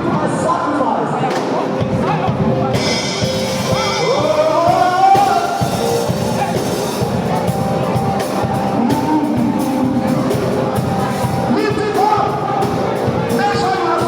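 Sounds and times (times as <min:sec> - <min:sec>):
church band music with drums: 0:00.0 - 0:14.0
congregation praying aloud: 0:00.0 - 0:14.0.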